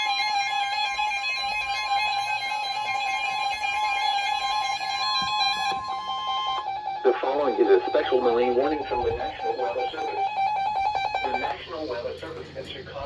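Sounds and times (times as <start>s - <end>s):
lower wavering tone: 0.0s - 11.9s
high steady alarm tone: 0.0s - 13.0s.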